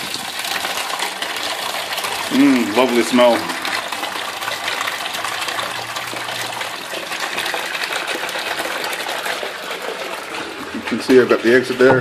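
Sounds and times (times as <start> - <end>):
water gushing into plastic tub: 0.0 - 12.0.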